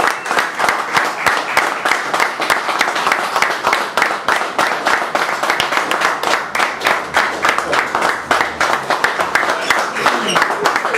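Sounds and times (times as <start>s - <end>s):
audience clapping: 0.0s - 10.9s.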